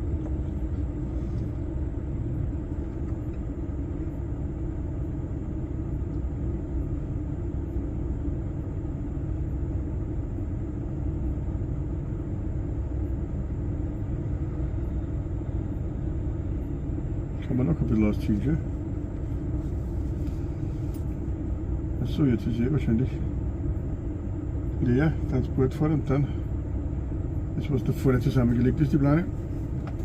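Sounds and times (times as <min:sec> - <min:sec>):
lorry engine drone: 0:00.0 - 0:30.0.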